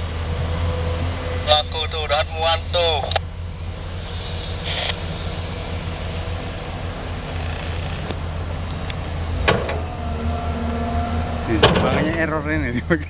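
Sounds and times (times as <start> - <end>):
heavy diesel engines droning: 0.0 - 13.0.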